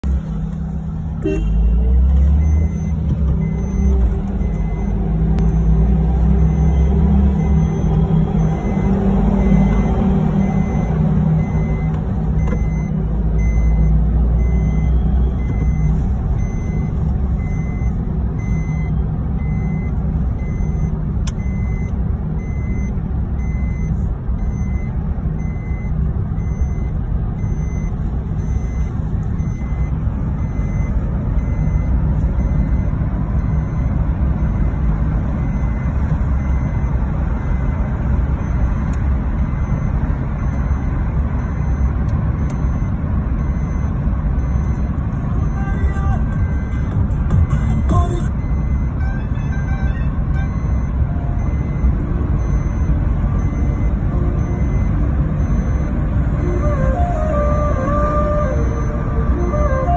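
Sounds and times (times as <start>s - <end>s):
engine and tyre rumble: 0.0s - 59.9s
faint high beep: 1.2s - 5.8s, 6.4s - 56.0s.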